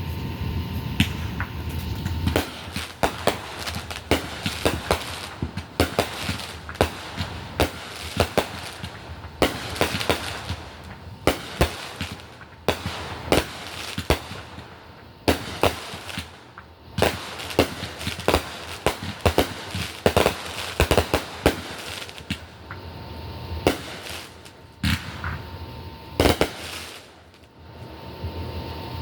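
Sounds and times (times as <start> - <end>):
fireworks banging: 0.0 - 28.4.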